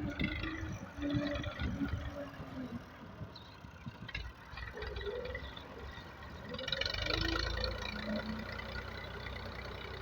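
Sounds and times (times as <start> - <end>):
tractor diesel engine rumbling: 0.0 - 10.0.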